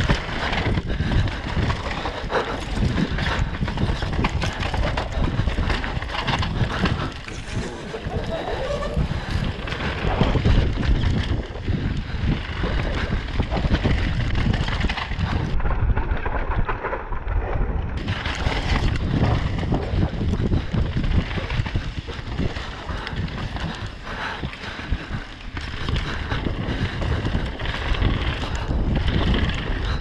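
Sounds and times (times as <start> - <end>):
bike rumbling over rough trail: 0.0 - 30.0
wind rushing over microphone: 0.0 - 30.0.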